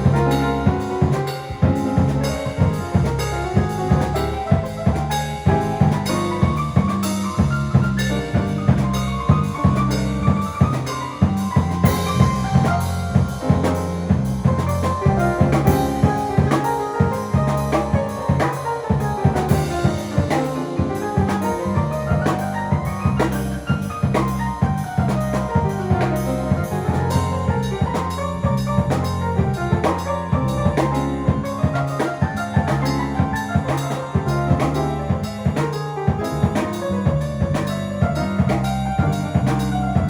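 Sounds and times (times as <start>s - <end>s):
drum kit beat with rimshots: 0.0s - 40.0s
jazz melody: 0.0s - 40.0s.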